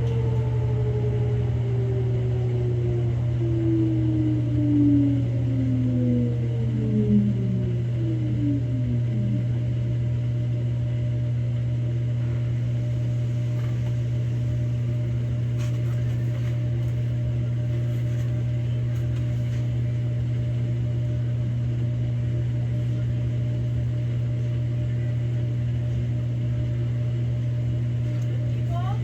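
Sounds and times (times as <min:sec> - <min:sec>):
falling whine: 0:00.0 - 0:10.8, 0:12.0 - 0:28.9
washing machine spinning: 0:00.0 - 0:29.0.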